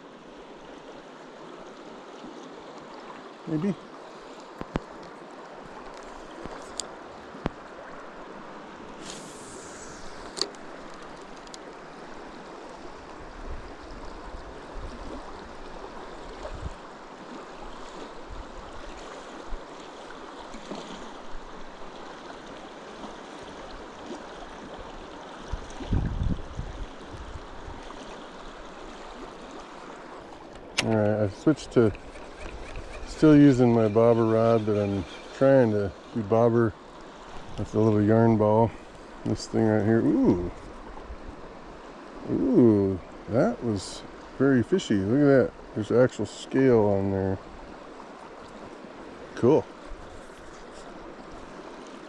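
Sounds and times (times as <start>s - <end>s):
river water rushing: 0.0s - 25.9s, 26.8s - 52.0s.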